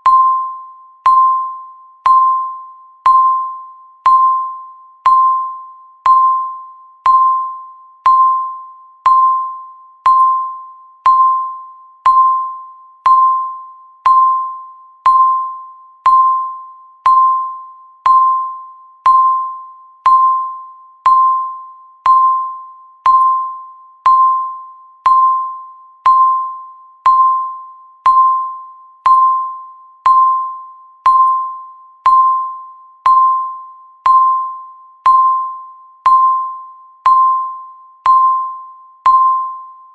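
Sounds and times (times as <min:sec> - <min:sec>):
timer ticking pings: 0:00.0 - 0:39.9.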